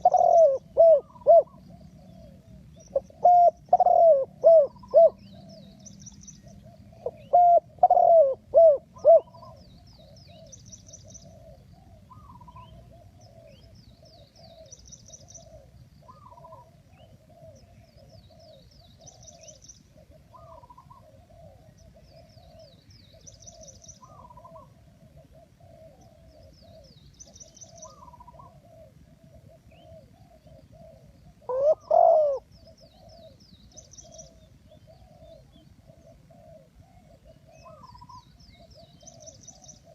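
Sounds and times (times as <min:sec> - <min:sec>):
doves cooing: 0:00.0 - 0:05.8, 0:06.4 - 0:39.9.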